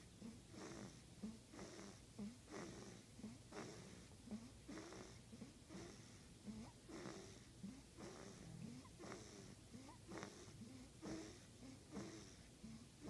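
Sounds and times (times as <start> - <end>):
faint snoring: 0.0 - 13.0.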